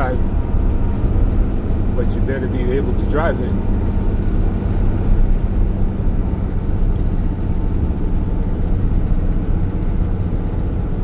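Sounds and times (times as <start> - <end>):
road noise: 0.0 - 11.0
truck engine hum: 0.0 - 11.0.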